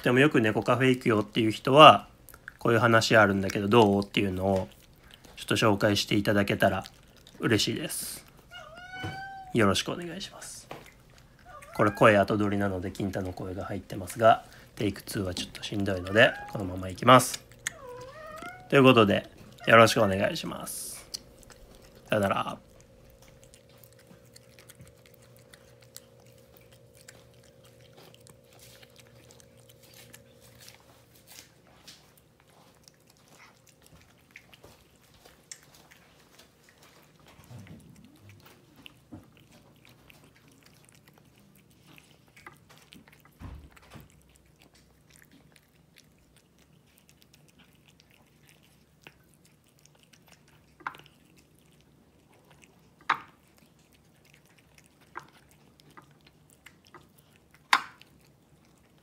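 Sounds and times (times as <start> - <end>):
cats chewing wet food: 0.0 - 59.0.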